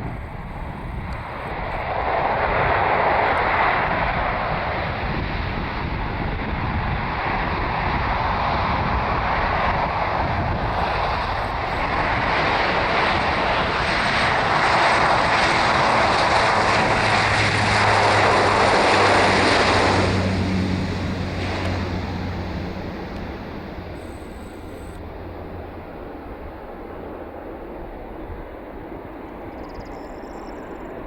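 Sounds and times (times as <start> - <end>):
low propeller hum: 0.0 - 31.0
turboprop airliner passing: 0.0 - 31.0.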